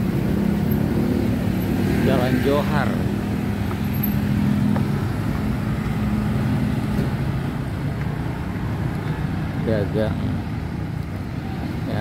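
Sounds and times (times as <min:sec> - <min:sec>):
cars and motorcycles passing: 0:00.0 - 0:12.0
steady engine hum: 0:00.0 - 0:12.0.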